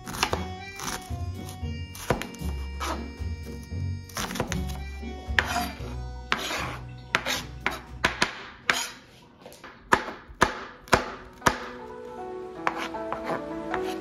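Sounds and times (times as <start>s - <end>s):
knife chopping on cutting board: 0.0s - 3.1s, 4.2s - 9.0s, 9.6s - 11.9s, 12.6s - 14.0s.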